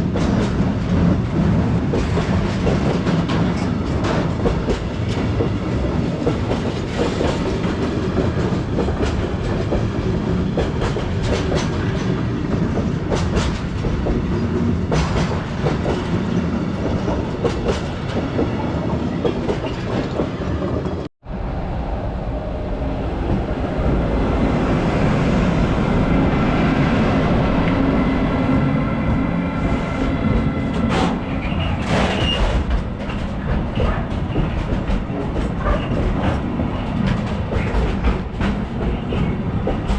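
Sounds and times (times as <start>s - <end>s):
train wheels clacking: 0.0s - 21.1s, 28.6s - 39.9s.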